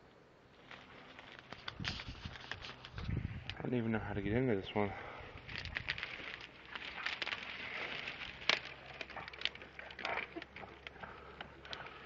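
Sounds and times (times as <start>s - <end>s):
twigs crackling underfoot: 0.5s - 3.9s, 4.6s - 12.0s.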